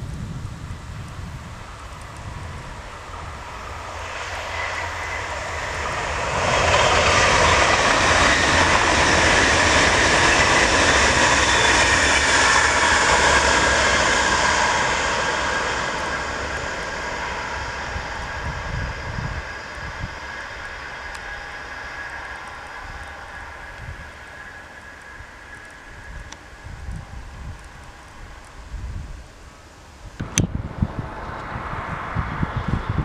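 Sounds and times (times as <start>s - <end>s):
train passing at speed: 0.7s - 33.0s.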